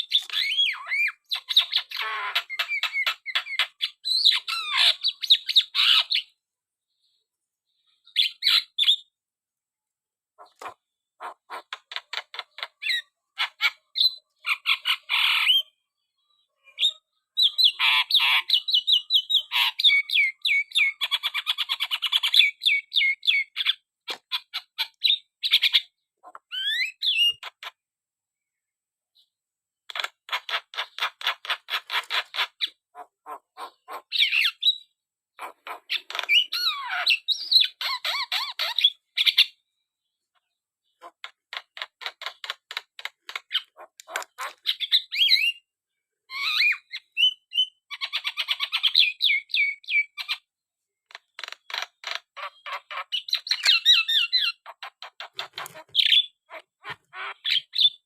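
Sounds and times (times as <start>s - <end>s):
myna bird chattering and squawking: 0.0s - 6.4s, 10.4s - 15.8s, 16.8s - 27.8s, 29.9s - 39.6s, 40.4s - 45.6s, 46.3s - 58.0s.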